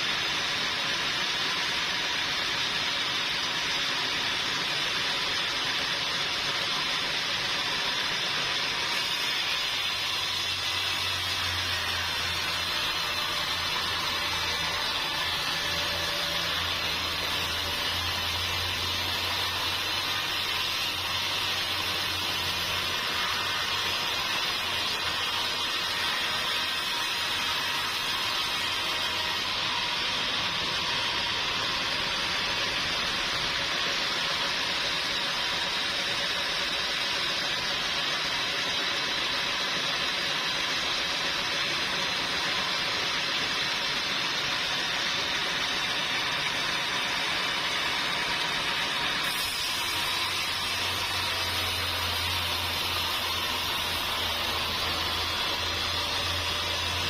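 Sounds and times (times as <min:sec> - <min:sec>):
sawmill machinery hissing: 0:00.0 - 0:57.0.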